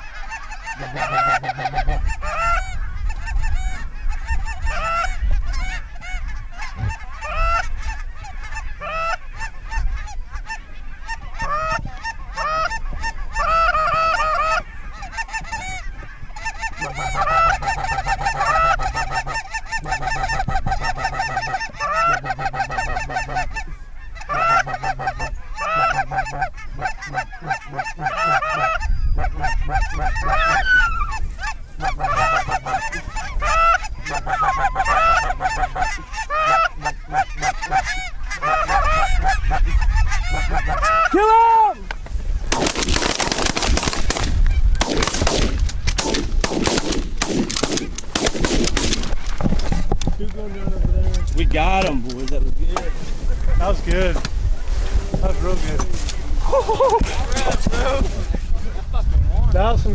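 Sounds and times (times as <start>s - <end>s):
geese honking: 0.0s - 58.4s.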